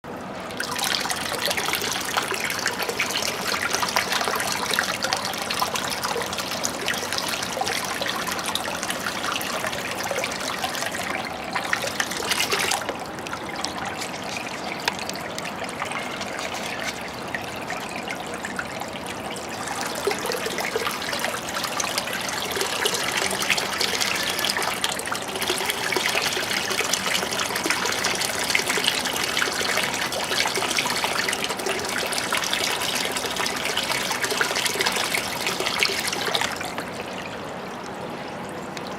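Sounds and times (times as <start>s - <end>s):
water trickling into tank: 0.0s - 38.9s.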